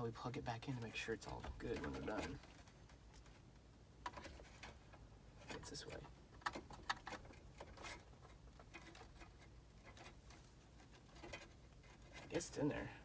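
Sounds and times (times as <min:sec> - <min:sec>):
plastic rattling of wires: 0:00.6 - 0:12.6.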